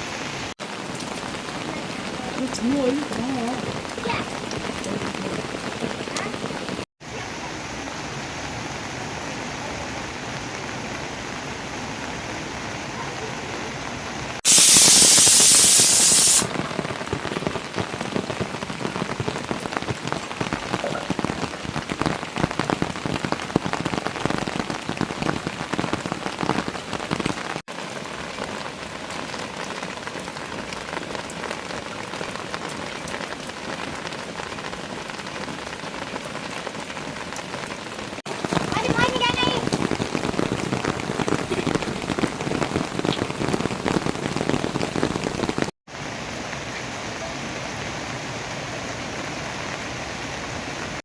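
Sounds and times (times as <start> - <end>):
rain drops striking surfaces: 0.0 - 51.0.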